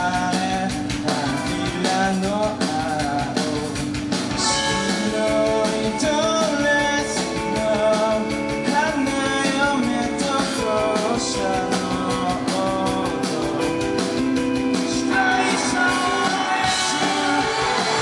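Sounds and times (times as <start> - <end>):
drums: 0.0 - 18.0
electric guitars: 0.0 - 18.0
person singing: 0.0 - 18.0.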